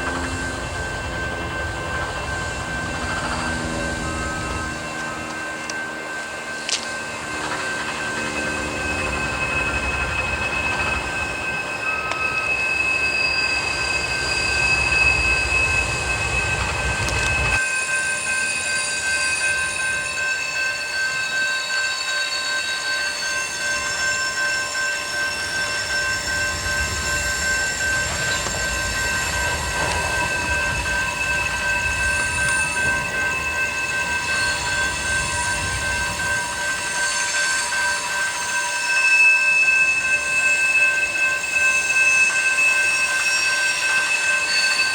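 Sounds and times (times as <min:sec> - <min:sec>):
rumble of train cars: 0:00.0 - 0:44.9
train wheel squeal: 0:00.0 - 0:44.9.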